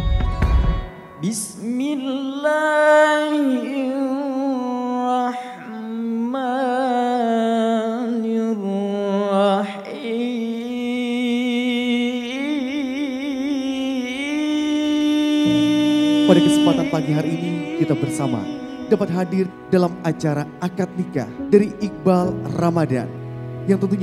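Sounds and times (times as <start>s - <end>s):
person singing wordlessly: 1.2s - 21.3s.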